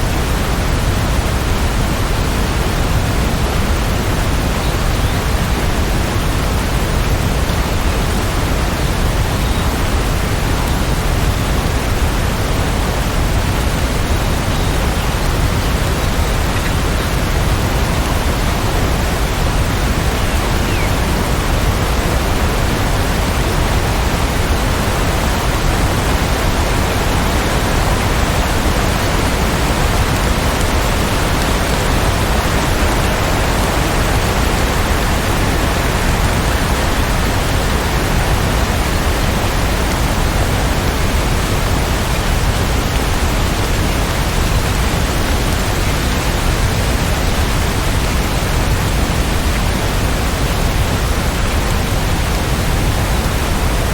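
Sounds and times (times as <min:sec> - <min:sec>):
heavy rain: 0:00.0 - 0:53.9.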